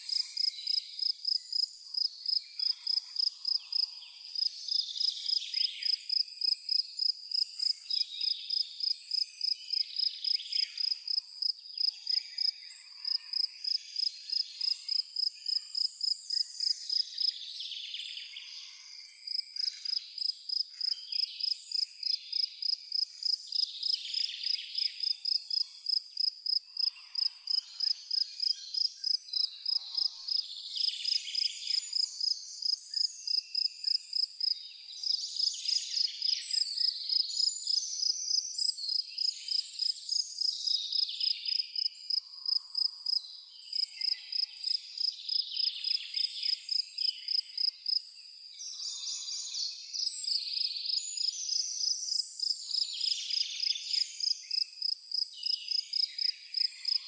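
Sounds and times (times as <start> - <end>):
birds singing: 0.0 - 57.0
cricket chirping: 0.1 - 17.3, 18.6 - 57.0.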